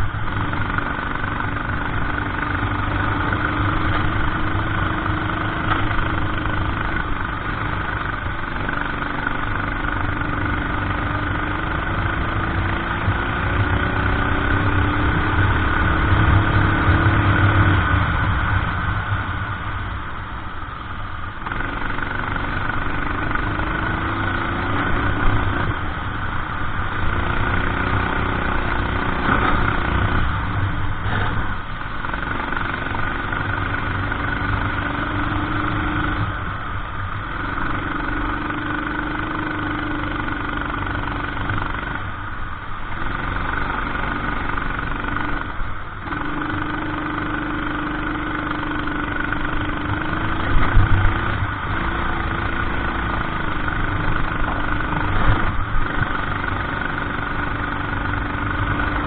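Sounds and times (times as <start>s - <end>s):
kart engine running hard: 0.0s - 59.0s
wind and tyre noise: 0.0s - 59.0s.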